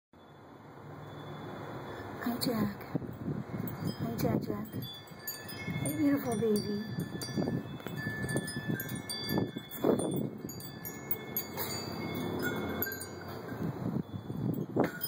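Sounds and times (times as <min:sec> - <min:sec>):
low rumble of wind: 0:00.2 - 0:15.0
wind chimes ringing: 0:01.0 - 0:15.0.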